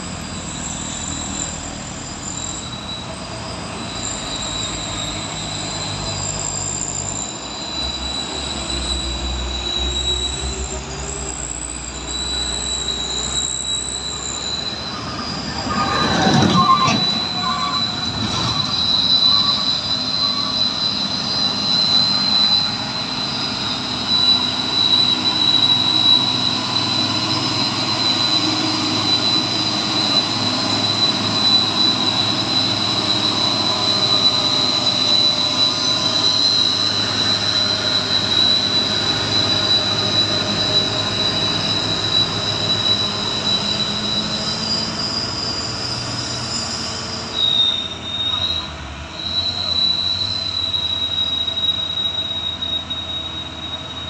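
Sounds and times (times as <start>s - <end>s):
high-pitched drone: 0.0s - 54.0s
truck diesel engines passing: 0.0s - 54.0s.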